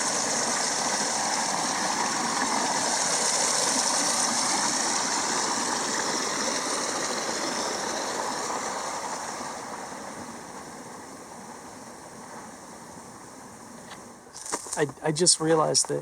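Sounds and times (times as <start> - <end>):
forest stream rushing water: 0.0 - 16.0.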